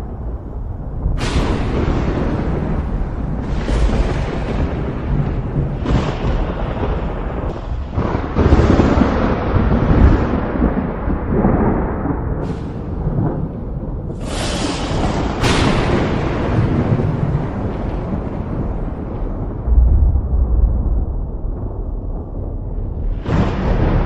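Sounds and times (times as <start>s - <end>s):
thunder rumbling: 0.0s - 24.0s.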